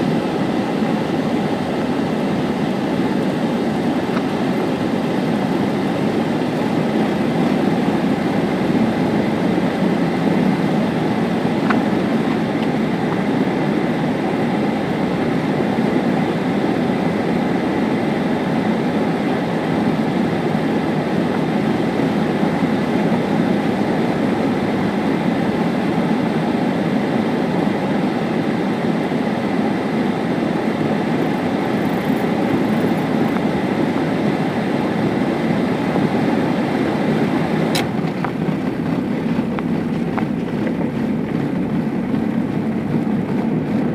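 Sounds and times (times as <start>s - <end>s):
car cabin road rumble: 1.7s - 26.6s, 30.8s - 43.9s.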